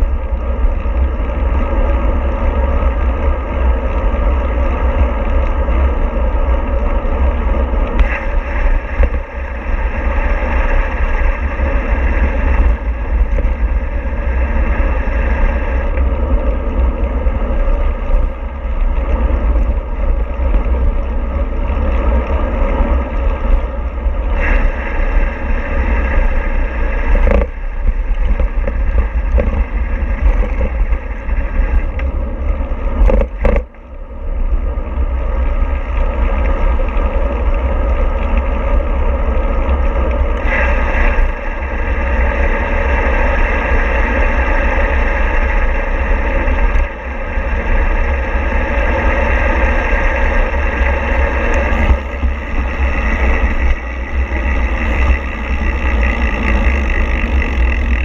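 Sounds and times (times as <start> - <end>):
road and wind rumble: 0.0 - 58.0.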